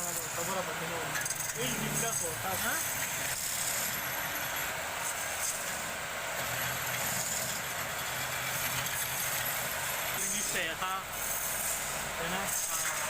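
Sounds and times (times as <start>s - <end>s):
motor running with hiss and hum: 0.0s - 13.0s.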